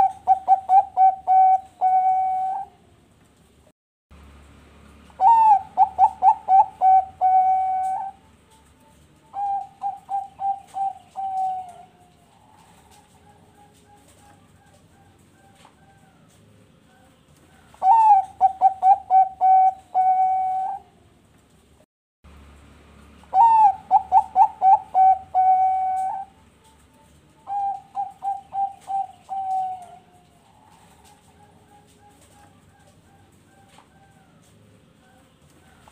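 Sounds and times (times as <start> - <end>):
dove cooing: 0.0 - 3.0, 5.2 - 21.2, 23.3 - 35.9.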